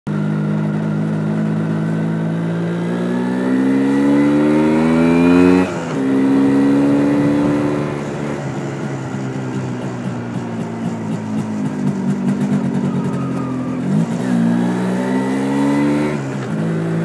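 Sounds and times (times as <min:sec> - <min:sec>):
two-stroke motorcycle engine: 0:00.1 - 0:17.0.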